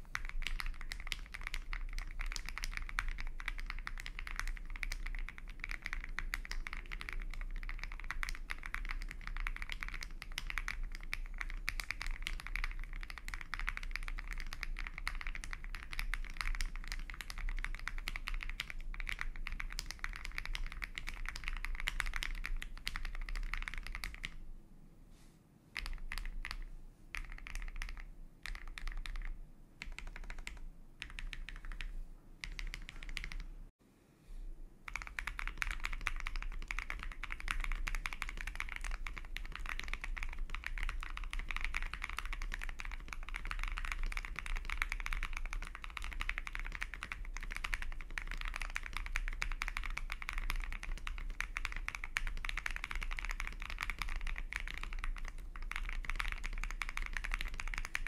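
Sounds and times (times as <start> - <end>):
typing on mechanical keyboard: 0.0 - 24.4, 25.8 - 33.5, 34.9 - 58.0.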